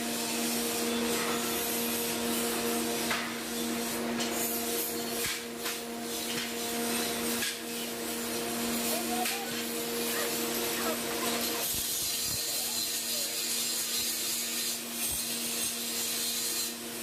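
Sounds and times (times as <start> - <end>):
electric grinder grinding steel: 0.0 - 17.0.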